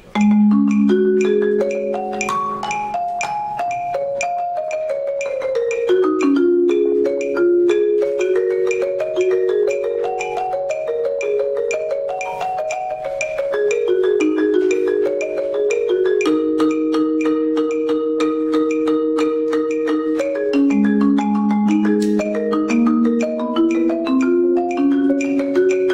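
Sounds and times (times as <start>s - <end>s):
marimba played with yarn mallets: 0.0s - 25.9s.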